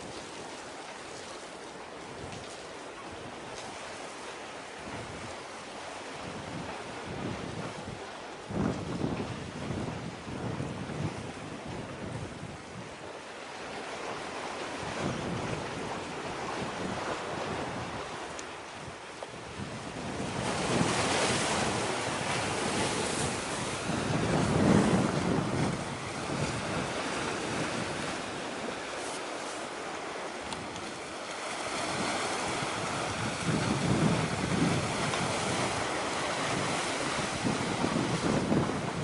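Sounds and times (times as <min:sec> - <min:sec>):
sea waves: 0:00.0 - 0:39.0
wind buffeting microphone: 0:04.8 - 0:39.0.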